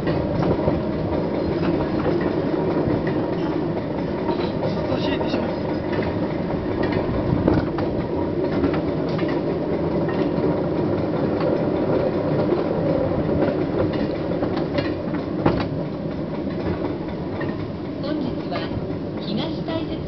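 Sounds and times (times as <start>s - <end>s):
steel wheels rumbling on track: 0.0s - 20.0s
wheels clacking over rail joints: 0.0s - 20.0s.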